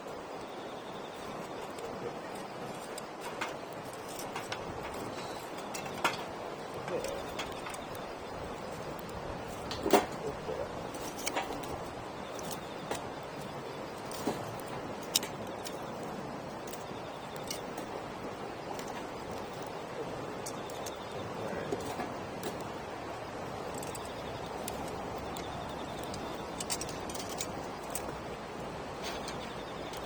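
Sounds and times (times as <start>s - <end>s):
campfire crackling and popping: 0.2s - 30.0s.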